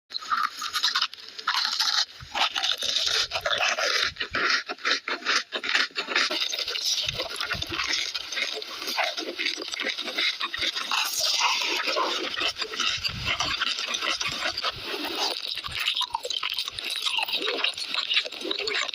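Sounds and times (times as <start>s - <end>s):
chewing and mouth sounds: 0.1s - 18.9s
crackling clicks: 0.1s - 18.9s.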